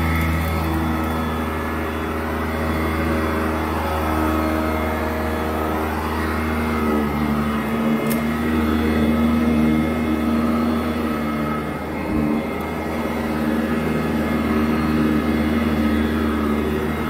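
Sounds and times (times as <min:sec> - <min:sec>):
upright vacuum motor hum: 0:00.0 - 0:17.0.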